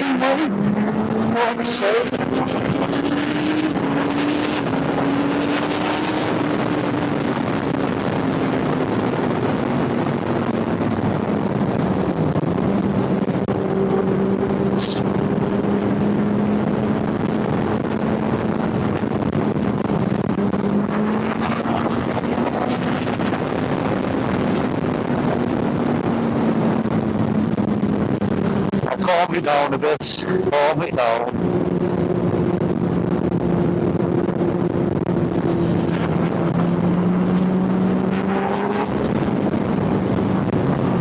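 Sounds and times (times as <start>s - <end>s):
motorcycle engine running: 0.0s - 29.1s, 31.3s - 41.0s
wind and road noise: 0.0s - 41.0s.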